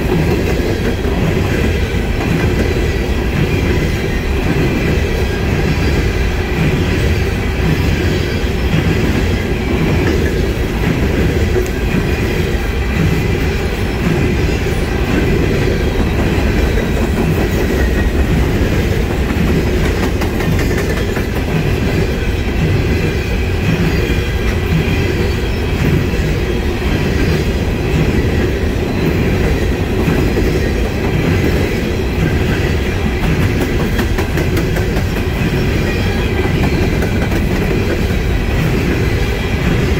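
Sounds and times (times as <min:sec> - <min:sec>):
train wheels rumbling on rail: 0:00.0 - 0:39.9
wheels clicking over rail joints: 0:00.0 - 0:39.9.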